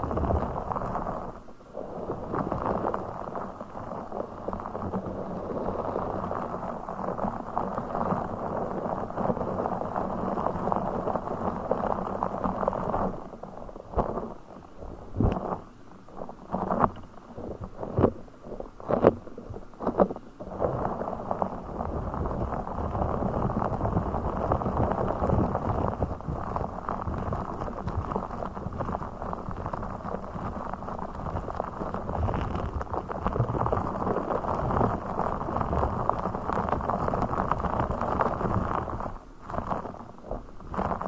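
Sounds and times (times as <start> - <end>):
object crackling near microphone: 0.0 - 41.0.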